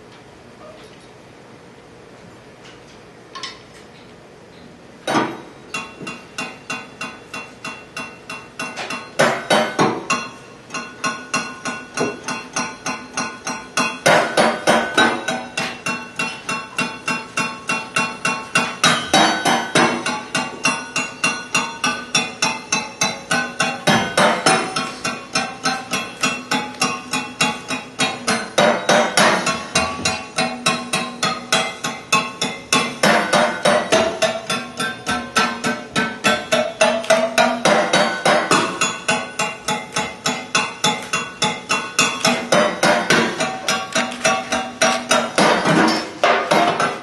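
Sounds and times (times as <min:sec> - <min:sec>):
rapid strikes on ringing percussion: 0:05.4 - 0:47.0.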